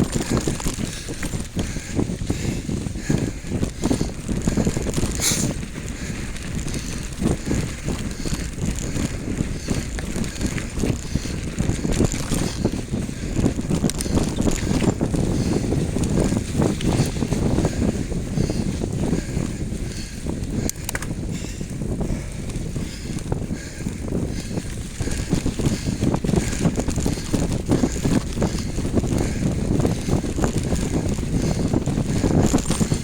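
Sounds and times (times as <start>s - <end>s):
bicycle rattling on rough trail: 0.0s - 33.0s
wind buffeting microphone: 0.0s - 33.0s.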